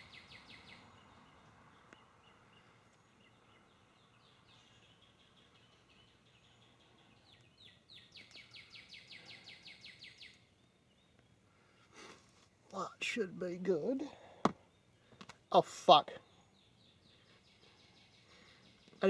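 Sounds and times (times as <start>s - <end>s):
songbird chirping and trilling: 0.0s - 11.8s, 12.7s - 19.0s.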